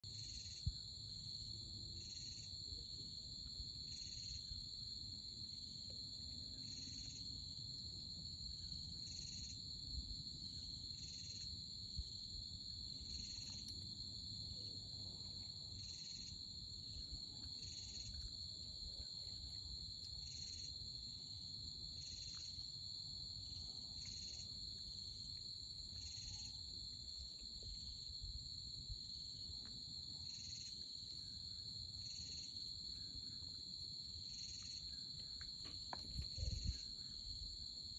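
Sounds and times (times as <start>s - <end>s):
insect chirping: 0.0s - 37.9s
insect high-pitched drone: 0.1s - 37.9s.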